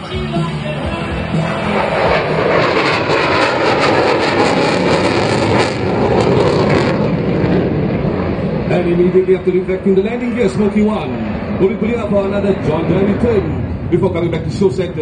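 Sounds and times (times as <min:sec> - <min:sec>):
jet engine rush: 0:01.0 - 0:15.0.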